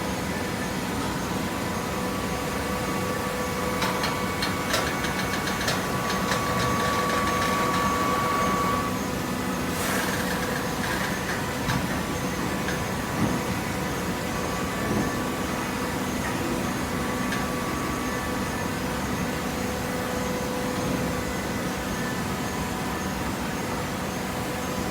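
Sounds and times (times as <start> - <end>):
hydraulic motor and pump humming: 0.1 - 24.9.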